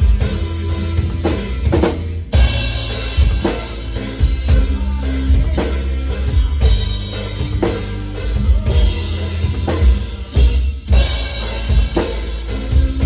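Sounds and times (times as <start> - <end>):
heavy metal music: 0.0 - 13.0.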